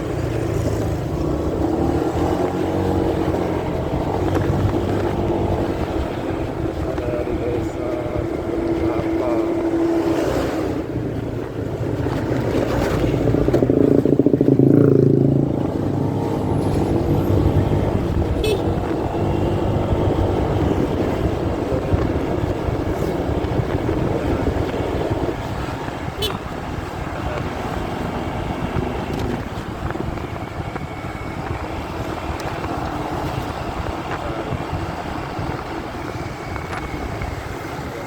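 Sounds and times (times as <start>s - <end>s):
muffled motorcycle and wind rumble: 0.0s - 38.0s.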